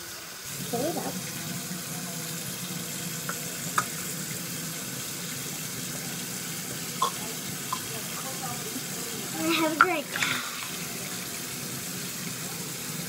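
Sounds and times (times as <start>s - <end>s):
faucet running: 0.0s - 13.0s.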